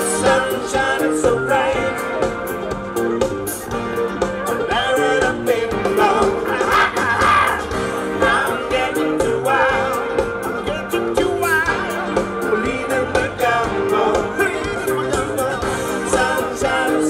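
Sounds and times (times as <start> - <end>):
person singing: 0.0 - 3.4, 4.4 - 17.0
live band playing pop-rock: 0.0 - 17.0
steady drum beat: 0.0 - 17.0.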